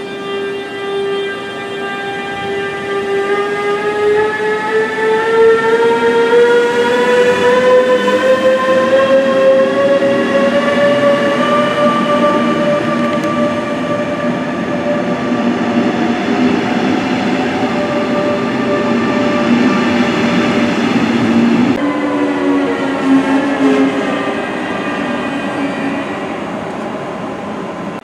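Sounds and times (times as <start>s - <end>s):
electric locomotive motor whine: 0.0s - 28.0s
train rolling noise: 0.0s - 28.0s.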